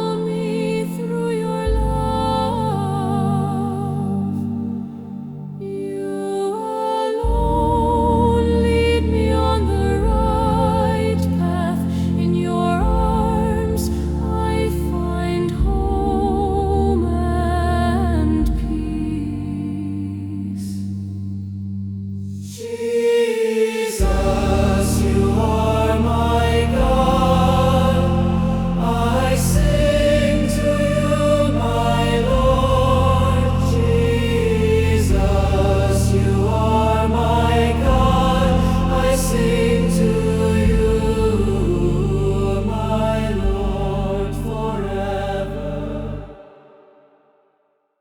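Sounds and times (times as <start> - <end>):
deep bass: 0.0 - 5.8, 7.2 - 22.6, 24.0 - 46.3
steady low drone: 0.0 - 6.6, 7.2 - 46.4
slow choral worship music: 0.0 - 47.5.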